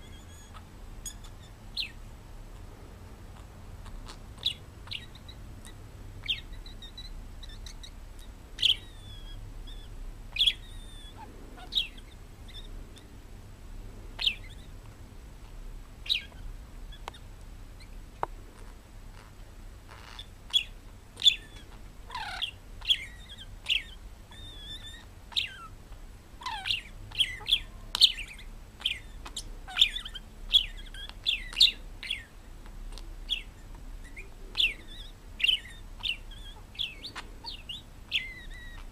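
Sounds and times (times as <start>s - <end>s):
parrot chirping: 0.0s - 2.7s, 3.3s - 13.2s, 14.2s - 14.8s, 15.4s - 18.0s, 18.6s - 38.9s.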